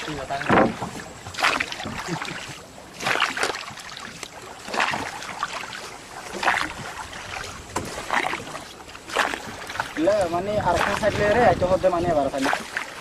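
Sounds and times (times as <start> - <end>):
oars splashing in water: 0.0 - 13.0.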